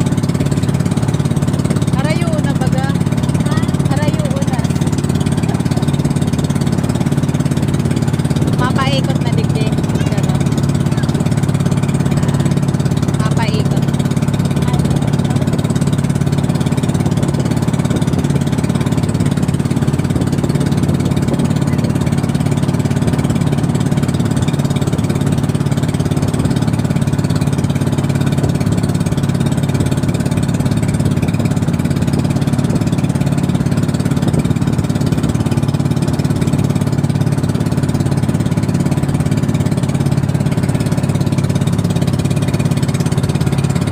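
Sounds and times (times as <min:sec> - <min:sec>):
small boat engine running: 0:00.0 - 0:43.9.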